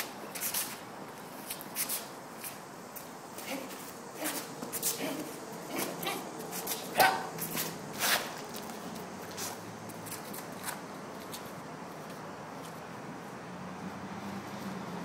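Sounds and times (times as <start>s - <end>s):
shoes scuffing on stone paving: 0.3s - 12.9s.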